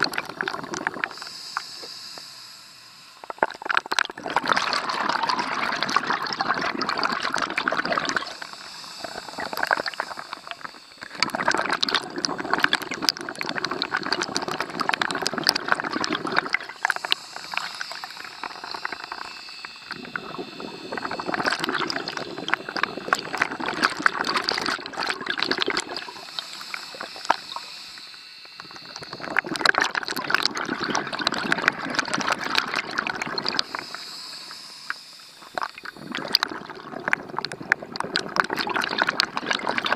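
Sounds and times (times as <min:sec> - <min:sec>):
diver exhaling bubbles underwater: 0:00.0 - 0:39.9.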